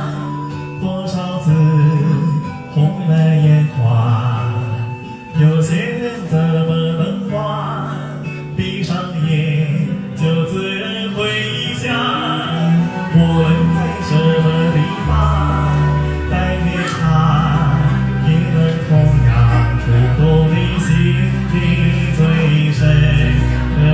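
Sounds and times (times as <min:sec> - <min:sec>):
backing track music: 0:00.0 - 0:23.9
person singing karaoke: 0:00.0 - 0:23.9.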